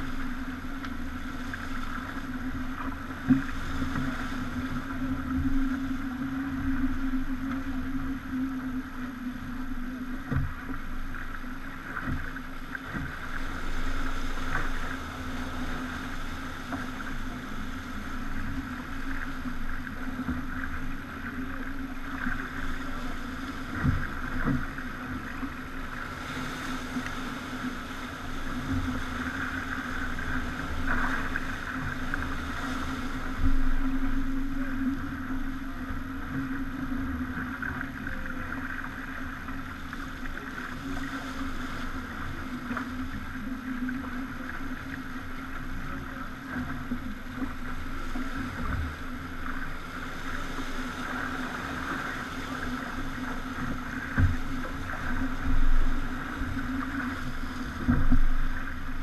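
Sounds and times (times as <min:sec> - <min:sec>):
engine drone: 0:00.0 - 0:59.0
water noise: 0:00.0 - 0:59.0.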